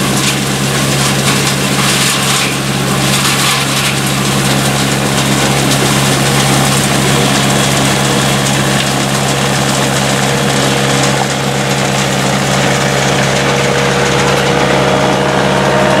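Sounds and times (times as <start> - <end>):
harvester engine drone: 0.0 - 16.0.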